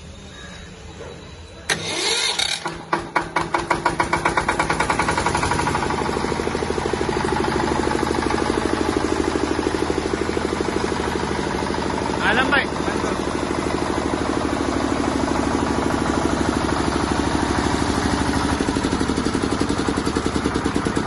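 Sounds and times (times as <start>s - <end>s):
diesel generator engine: 0.0s - 21.0s.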